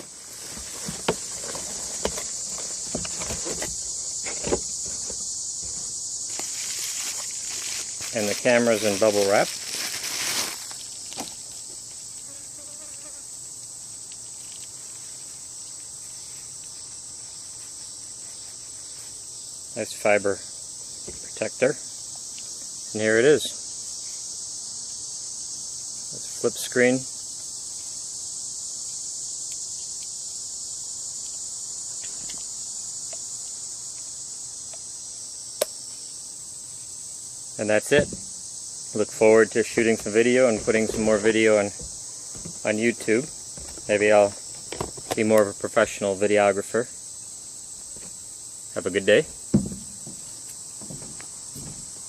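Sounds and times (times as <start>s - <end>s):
high-pitched hiss: 0.0s - 52.0s
high-pitched insect chorus: 0.0s - 52.0s.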